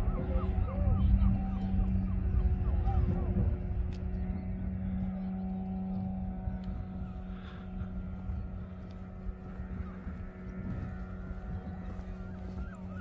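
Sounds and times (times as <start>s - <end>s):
steady engine drone: 0.0s - 13.0s
wind rumble on microphone: 0.0s - 13.0s.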